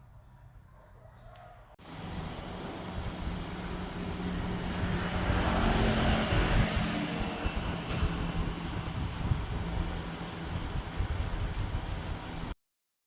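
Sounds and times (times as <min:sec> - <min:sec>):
motor vehicle passing by: 0:01.6 - 0:12.6.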